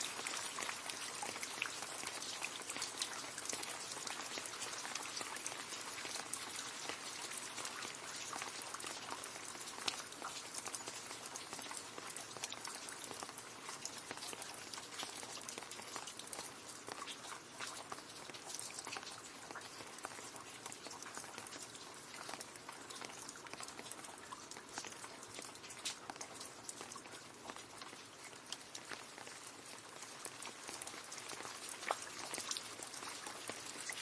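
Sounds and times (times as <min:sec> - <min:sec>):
rain splashing into a puddle: 0:00.0 - 0:34.0.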